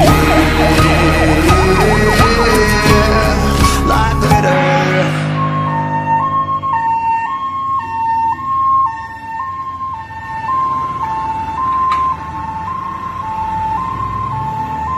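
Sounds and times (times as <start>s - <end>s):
truck engine rumble: 0.0s - 14.9s
two-tone siren: 0.0s - 14.9s.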